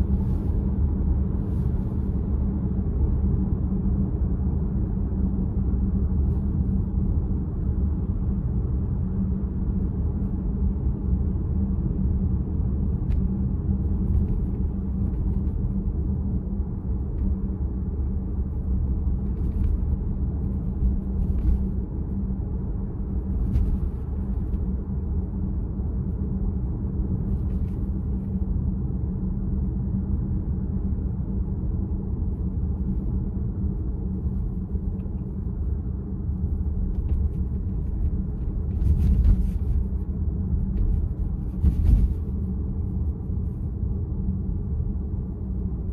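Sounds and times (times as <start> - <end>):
road and tyre rumble: 0.0 - 45.9.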